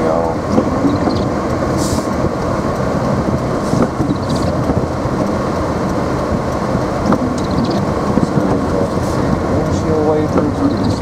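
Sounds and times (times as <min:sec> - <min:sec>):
road and engine rumble in car: 0:00.0 - 0:11.0.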